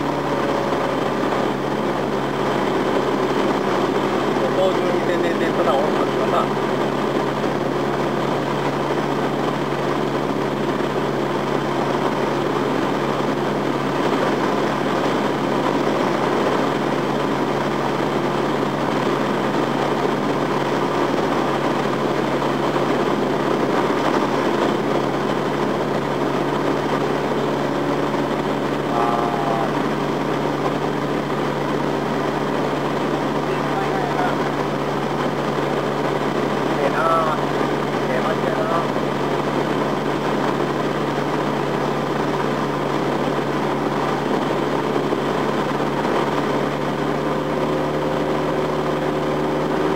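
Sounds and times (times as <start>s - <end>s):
light plane engine drone: 0.0s - 49.9s.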